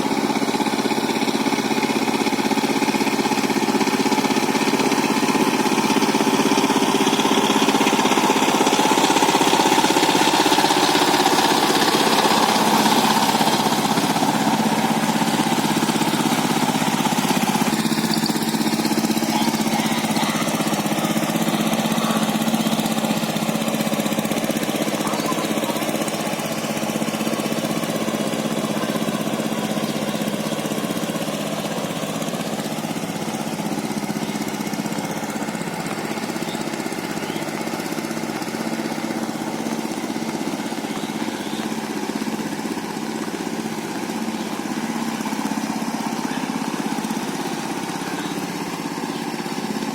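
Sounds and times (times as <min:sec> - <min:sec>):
tiller diesel engine running: 0:00.0 - 0:49.9.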